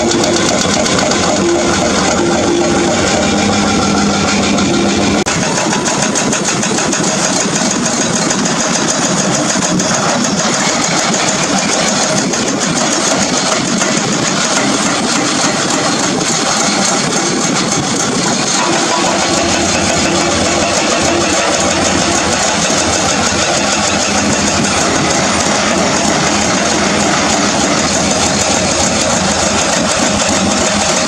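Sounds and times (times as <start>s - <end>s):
excavator engine running: 0.0s - 31.0s
hydraulic breaker hammering rock: 0.0s - 31.0s.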